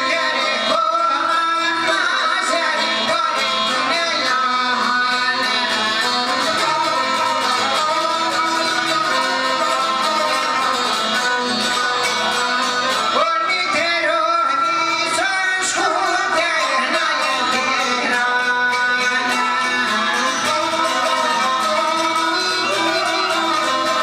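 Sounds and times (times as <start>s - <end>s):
person singing: 0.0s - 24.0s
plucked string instruments: 0.0s - 24.0s.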